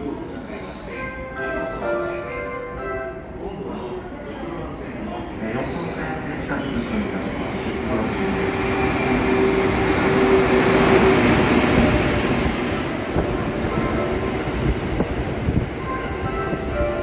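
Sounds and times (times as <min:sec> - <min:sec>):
train coaches rumbling past: 0:00.0 - 0:17.0
electric locomotive humming: 0:00.2 - 0:17.0.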